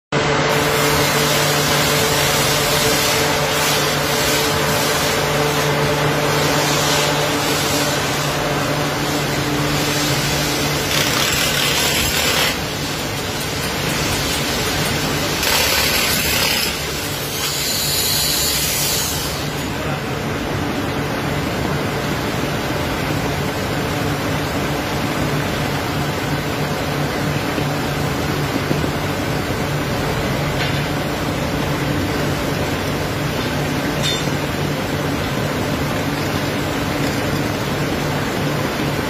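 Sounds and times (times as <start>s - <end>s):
blast furnace rushing noise: 0.1s - 39.0s
cooling fan humming: 0.1s - 39.0s.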